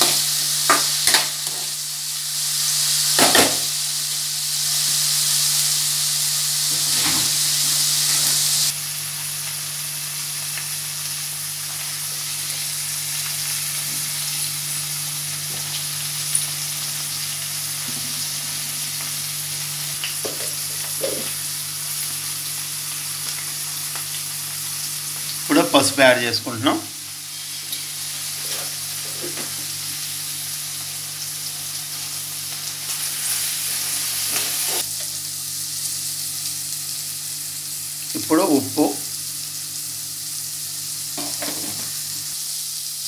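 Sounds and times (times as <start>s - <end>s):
beans sizzling in oil: 0.0s - 43.0s.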